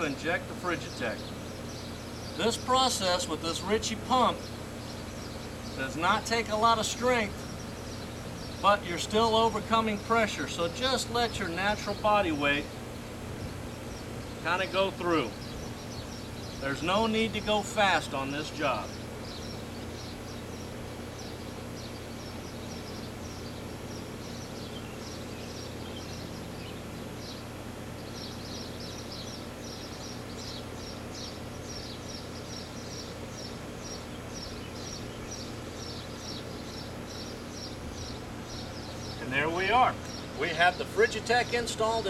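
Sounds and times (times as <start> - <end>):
air conditioner humming: 0.0 - 42.0.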